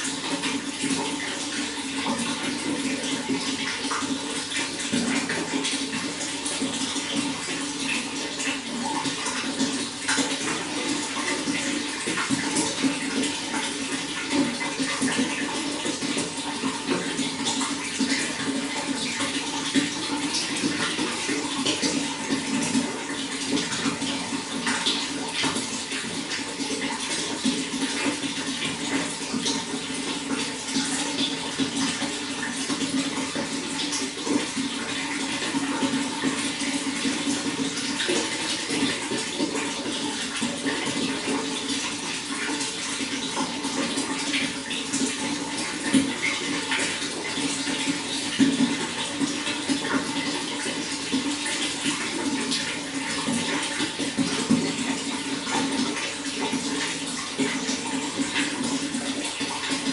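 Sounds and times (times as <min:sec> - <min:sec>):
running water flowing: 0:00.0 - 0:59.9.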